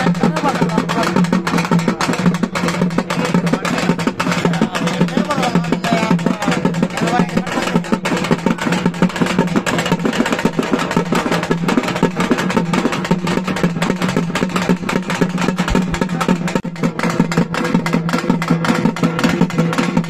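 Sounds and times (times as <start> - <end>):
fast dense drumming: 0.0 - 20.0.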